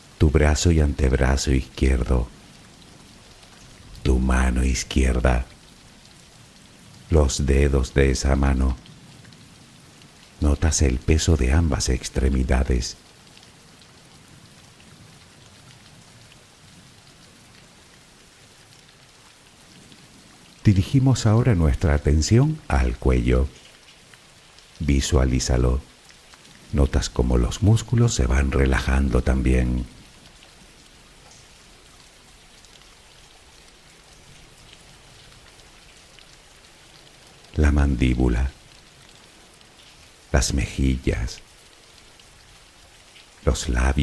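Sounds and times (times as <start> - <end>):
soft steady rain: 0.0 - 44.0.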